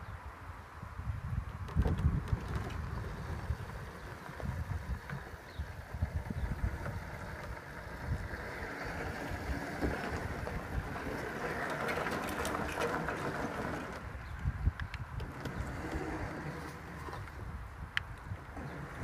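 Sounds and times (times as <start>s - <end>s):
wind rumbling on microphone: 0.0s - 19.0s
electric drive motors running: 1.8s - 19.0s.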